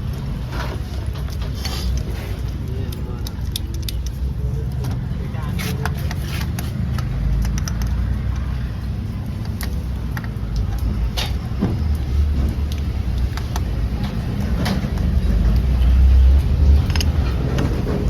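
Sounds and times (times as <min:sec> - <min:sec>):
vehicle engine rumble: 0:00.0 - 0:18.0
light clicks and taps: 0:01.0 - 0:18.0.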